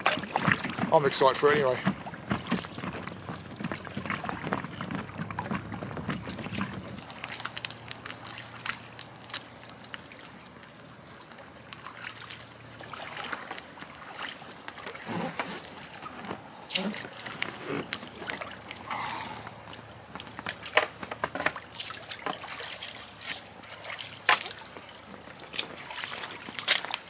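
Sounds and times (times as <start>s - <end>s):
water splashing around canoe: 0.0s - 27.0s.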